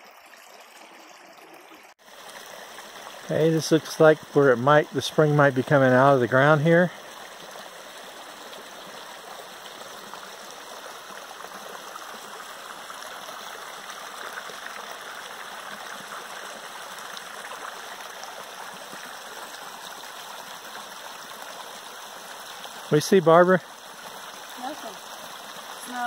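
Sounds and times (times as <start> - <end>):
creek trickling over stones: 0.0 - 26.0.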